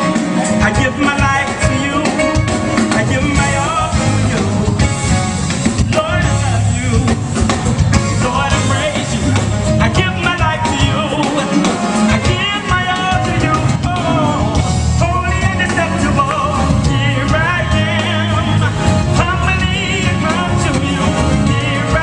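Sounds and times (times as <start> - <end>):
live band drums and bass: 0.0 - 22.0.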